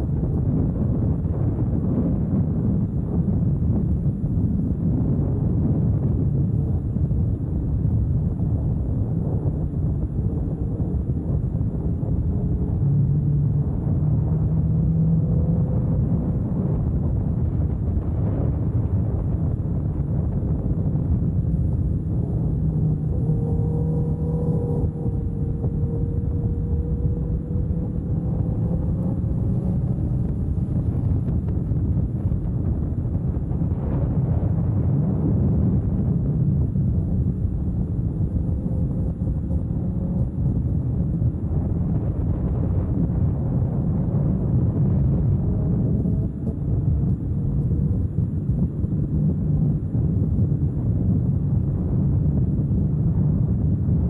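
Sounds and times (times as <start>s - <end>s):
wind rumble on microphone: 0.0s - 54.0s
motorcycle engine cruising: 2.8s - 54.0s.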